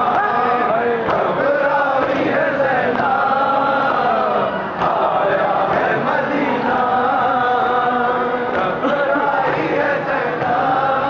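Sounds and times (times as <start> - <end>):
crowd of men chanting: 0.0 - 11.0
lead reciter singing: 0.0 - 11.0.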